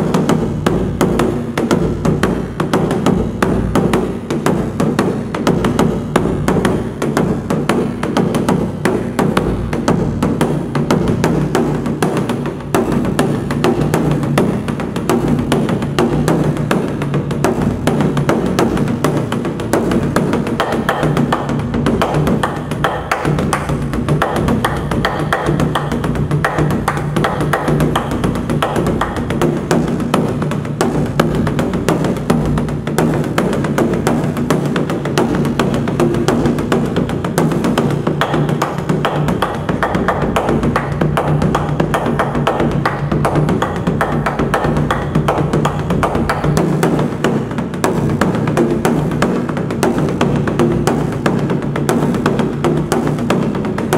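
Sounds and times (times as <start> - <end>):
fast barrel drumming with sticks: 0.0 - 53.9.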